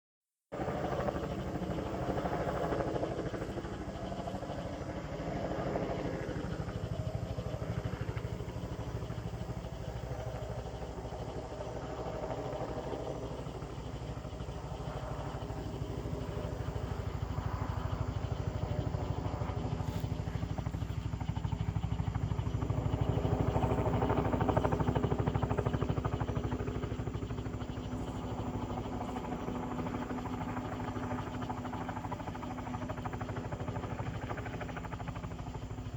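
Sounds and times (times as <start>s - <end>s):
helicopter rotor blades chopping: 0.6s - 35.9s
turbine engine whine: 0.6s - 35.9s.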